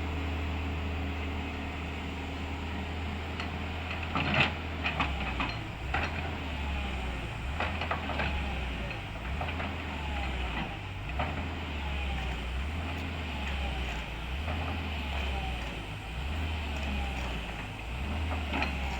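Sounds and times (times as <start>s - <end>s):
diesel engine under load: 0.0s - 18.9s.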